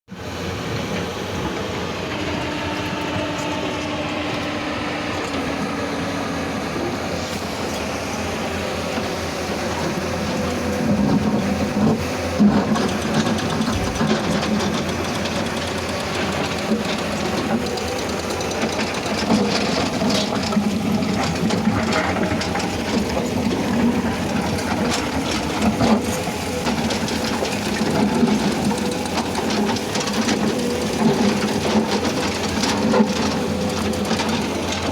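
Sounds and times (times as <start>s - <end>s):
diesel machinery engine running: 0.1s - 34.9s.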